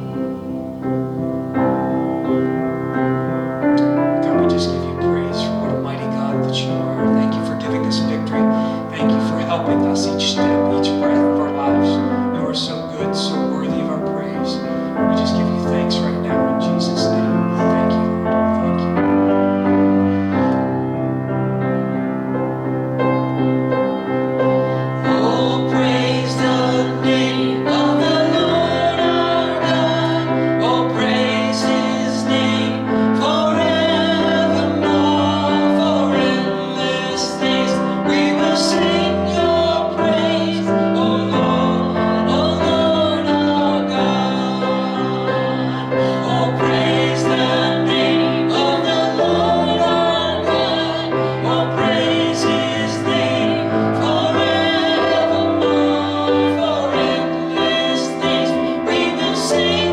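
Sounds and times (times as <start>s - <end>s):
piano accompaniment: 0.0s - 59.9s
voices singing: 0.0s - 59.9s.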